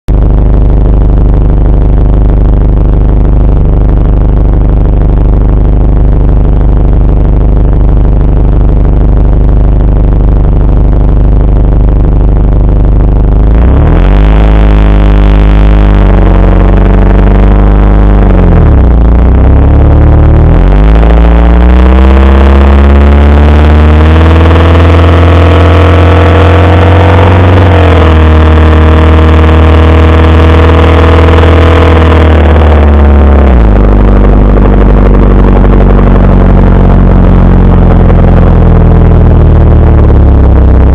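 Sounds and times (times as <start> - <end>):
loud car engine revving: 0.1 - 40.9.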